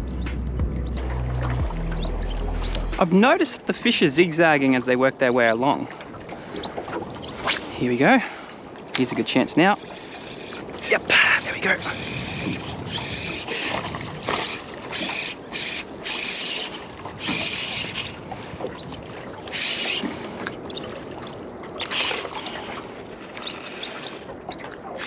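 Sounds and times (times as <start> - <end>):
waves lapping against boat hull: 0.8 - 25.0.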